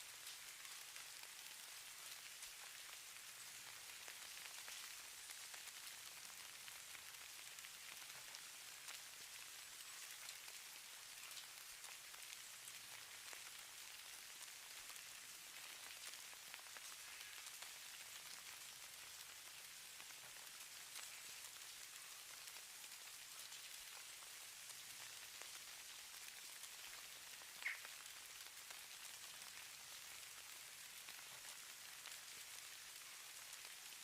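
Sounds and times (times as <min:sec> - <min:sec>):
hiss of falling snow: 0:00.0 - 0:34.0
snowflakes ticking on a surface: 0:00.1 - 0:34.0.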